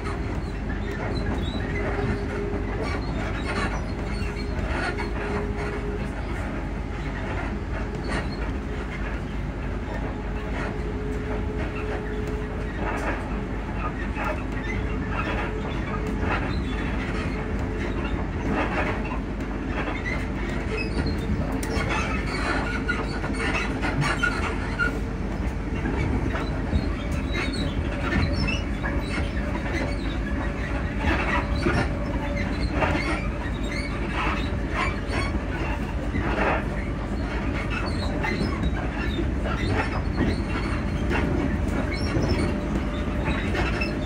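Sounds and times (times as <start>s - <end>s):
train interior rumble and hum: 0.0s - 44.0s.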